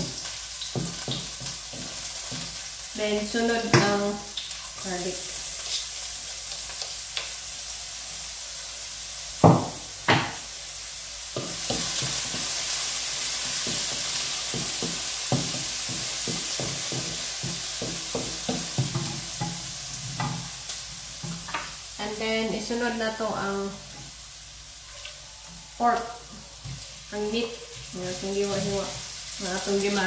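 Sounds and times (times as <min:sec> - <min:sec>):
onion sizzling in oil: 0:00.0 - 0:30.0.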